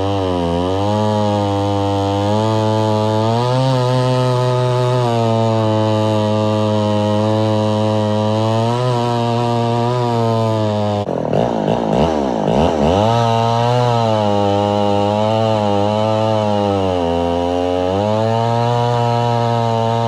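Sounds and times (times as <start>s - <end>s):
chainsaw engine running: 0.0s - 20.0s.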